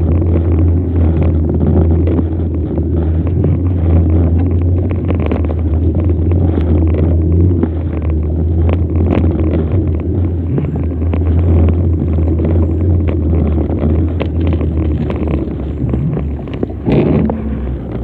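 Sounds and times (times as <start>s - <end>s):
bicycle low rumble: 0.0s - 18.0s
bicycle rattles and clicks: 0.0s - 18.0s.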